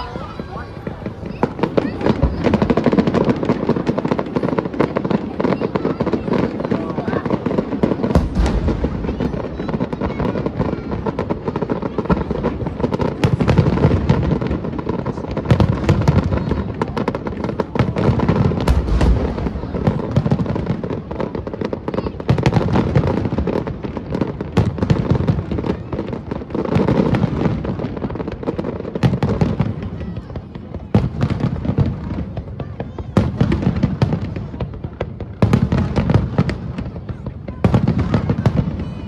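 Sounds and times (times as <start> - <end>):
fireworks booming: 0.0 - 39.0
fireworks cracks and crackling: 0.0 - 39.0.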